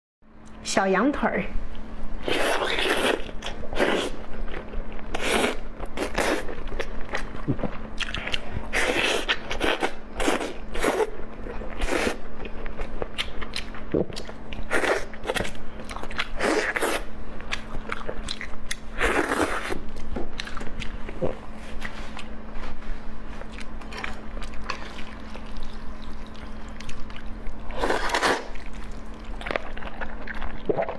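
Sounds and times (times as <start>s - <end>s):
person biting and chewing food: 2.2s - 22.4s, 23.4s - 30.9s.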